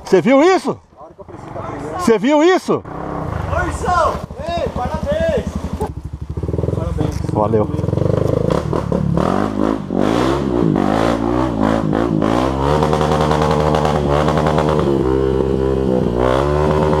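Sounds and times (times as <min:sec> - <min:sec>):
dirt bike engine revving: 0:01.2 - 0:17.0.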